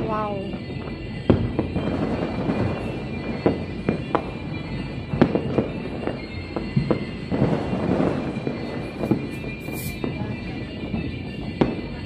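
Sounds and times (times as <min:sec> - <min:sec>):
fireworks sharp bangs: 0:00.0 - 0:12.0
rumble of fireworks bursts: 0:00.0 - 0:12.0.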